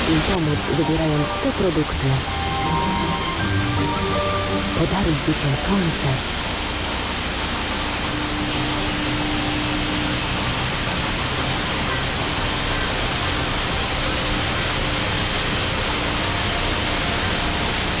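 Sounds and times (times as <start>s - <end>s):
tv static hiss: 0.0s - 18.0s.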